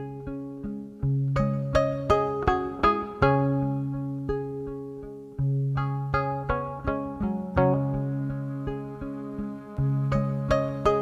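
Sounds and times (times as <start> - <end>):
plucked strings music: 0.0 - 11.0.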